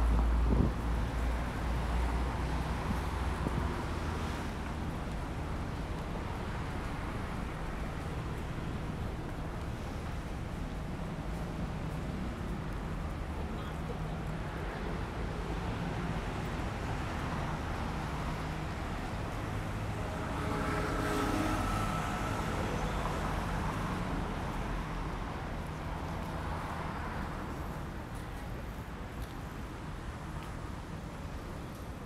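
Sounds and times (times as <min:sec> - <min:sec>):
cars passing: 0:00.0 - 0:31.5.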